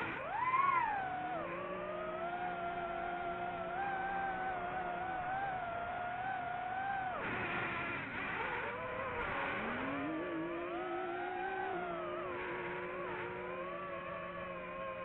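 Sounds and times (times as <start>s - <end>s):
race vehicle engines revving: 0.0s - 15.0s.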